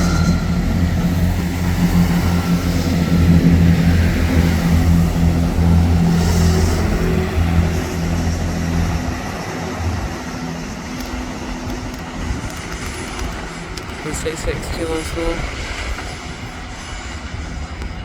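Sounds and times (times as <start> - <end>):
diesel train engine droning: 0.0 - 18.0.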